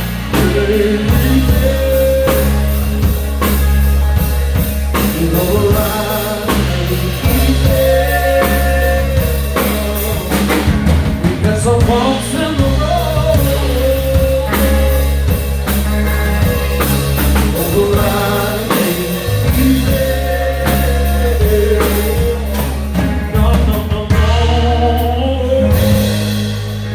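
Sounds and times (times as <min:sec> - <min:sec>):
wavering lead melody: 0:00.0 - 0:11.1, 0:11.8 - 0:26.9
bass: 0:00.0 - 0:26.9
drum kit: 0:00.0 - 0:26.9.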